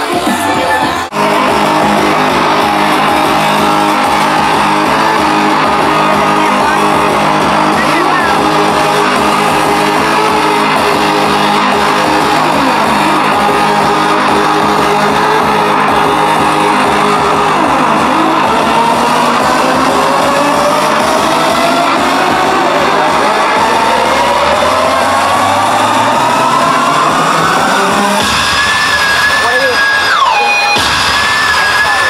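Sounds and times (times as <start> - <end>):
electronic dance music: 0.0 - 32.0
rising synth sweep: 0.0 - 32.0.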